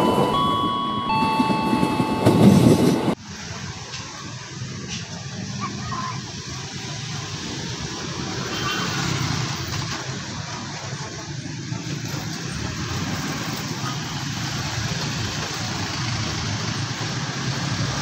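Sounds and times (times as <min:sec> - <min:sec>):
vehicles driving over tracks: 0:00.0 - 0:18.0
hum of engines and tyres: 0:03.1 - 0:18.0.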